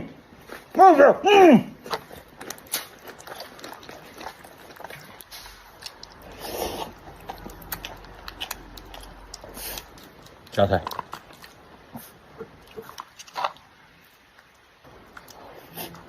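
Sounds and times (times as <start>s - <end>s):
kitten chewing and crunching: 1.8s - 16.0s.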